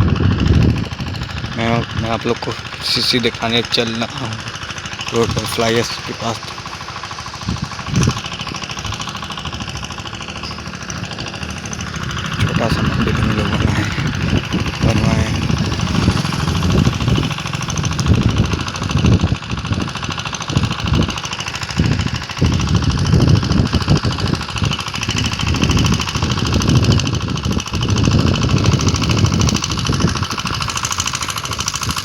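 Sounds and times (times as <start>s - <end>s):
low rumbling surges: 0.0s - 25.7s
diesel engine rattling: 0.0s - 32.0s.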